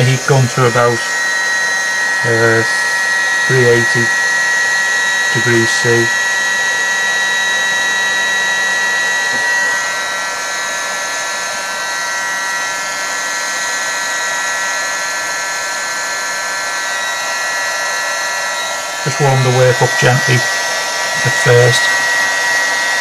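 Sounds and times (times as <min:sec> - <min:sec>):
fan motor whine: 0:00.0 - 0:23.0
heat gun blowing air: 0:00.0 - 0:23.0.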